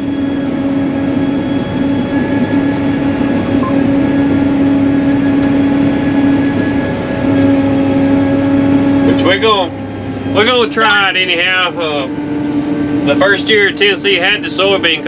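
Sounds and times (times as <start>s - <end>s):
tractor droning hum with whine: 0.0s - 15.0s.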